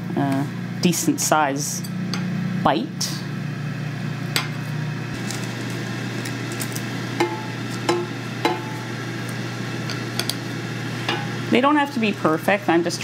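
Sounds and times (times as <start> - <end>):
air fryer fan humming: 0.0 - 13.0.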